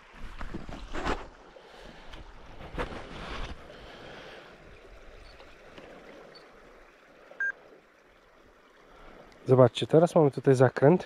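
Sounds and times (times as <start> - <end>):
small river flowing: 0.0 - 11.0.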